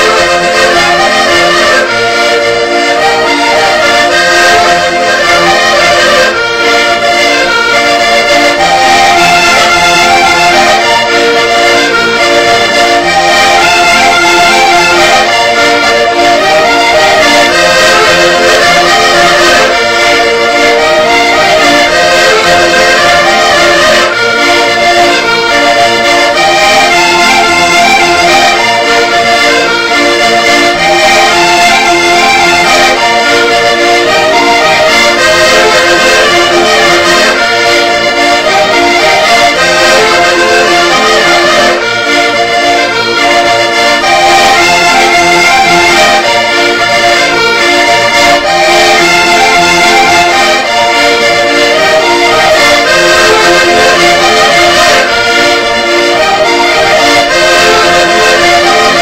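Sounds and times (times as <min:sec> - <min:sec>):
button accordions playing folk dance: 0:00.0 - 0:59.0.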